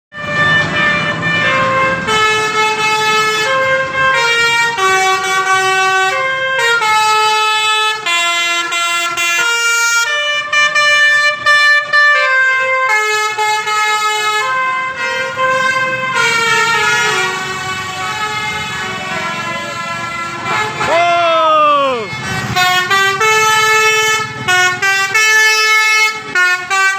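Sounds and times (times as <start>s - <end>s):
musical air horn playing a tune: 0.2s - 26.9s.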